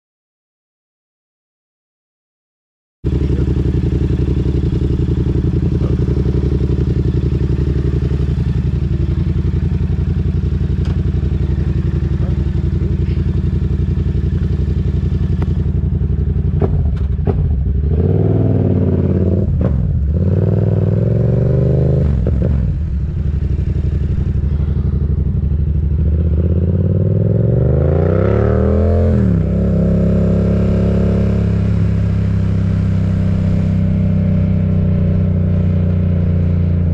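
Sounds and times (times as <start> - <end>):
motorcycle engine idling and revving: 3.0 - 36.9.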